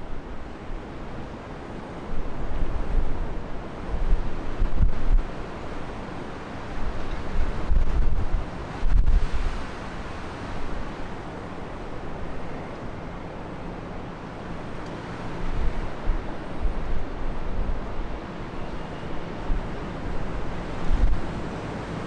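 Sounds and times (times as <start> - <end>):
storm wind buffeting microphone: 2.0 - 12.4, 14.4 - 22.0.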